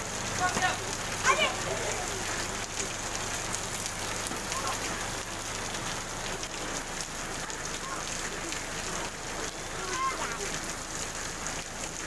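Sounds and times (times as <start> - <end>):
rain on a wet street: 0.0 - 12.0.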